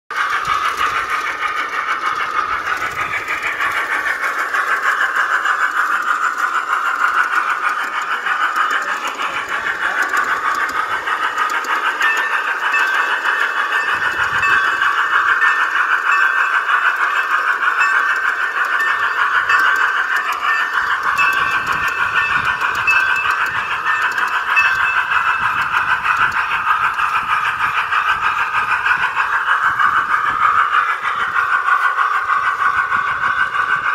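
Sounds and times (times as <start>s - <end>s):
tinny model train running sound: 0.1s - 33.9s.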